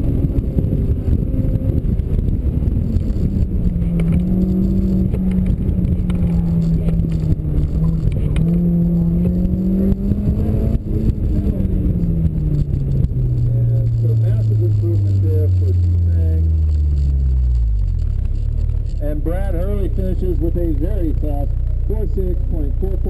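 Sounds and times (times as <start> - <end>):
car engine pulling hard: 0.0 - 23.0.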